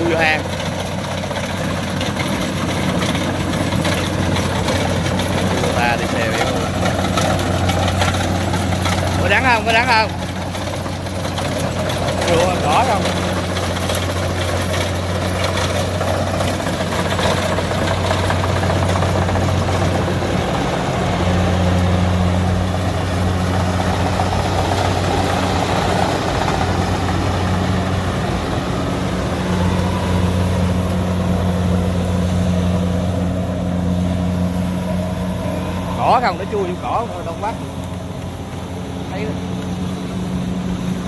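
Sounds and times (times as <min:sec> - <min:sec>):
combine harvester diesel engine: 0:00.0 - 0:41.0
cutting and threshing machinery: 0:00.0 - 0:41.0.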